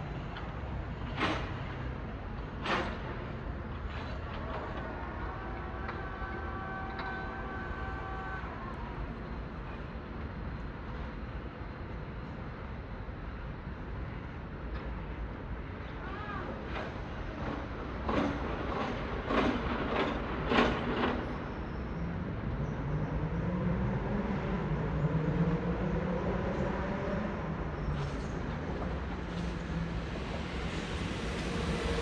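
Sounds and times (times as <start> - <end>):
train low drone: 0.0 - 32.0.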